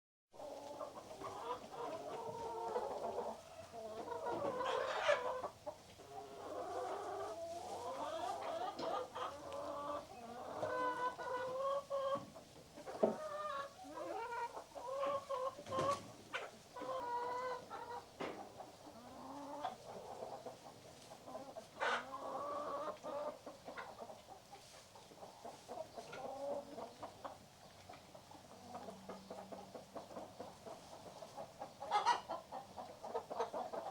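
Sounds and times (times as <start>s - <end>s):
hens clucking and cackling: 0.4s - 33.9s.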